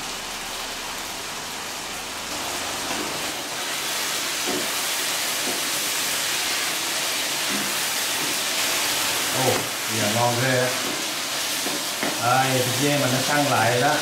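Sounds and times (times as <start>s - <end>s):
meat sizzling in a frying pan: 0.1s - 14.0s.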